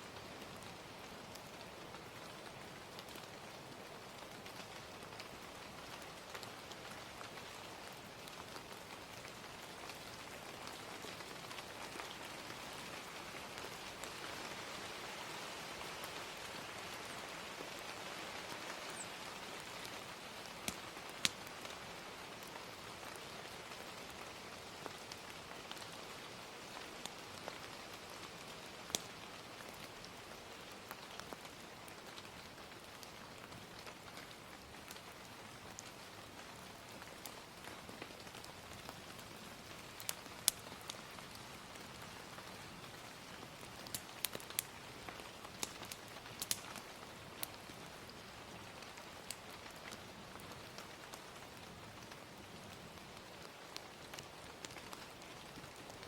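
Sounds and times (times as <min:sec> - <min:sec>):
gentle rain hissing: 0:00.0 - 0:56.0
wood fire crackling and popping: 0:01.3 - 0:14.4, 0:18.5 - 0:24.2, 0:24.8 - 0:26.0, 0:26.7 - 0:56.0.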